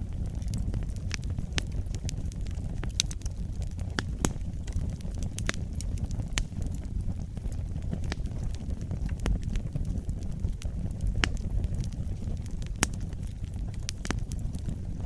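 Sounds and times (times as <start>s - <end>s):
burning wood popping and crackling: 0.0s - 15.0s
low rumble of flames: 0.0s - 15.0s.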